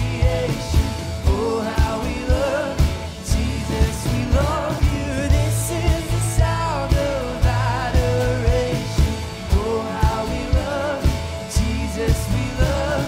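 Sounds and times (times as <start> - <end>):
bass guitar: 0.0 - 13.0
drum kit beat: 0.0 - 13.0
man singing: 0.0 - 13.0
strummed acoustic guitar: 0.0 - 13.0.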